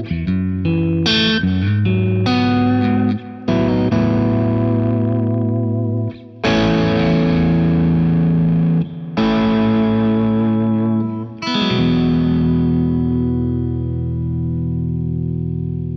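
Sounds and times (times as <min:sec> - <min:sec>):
distorted electric guitar chords: 0:00.0 - 0:15.9.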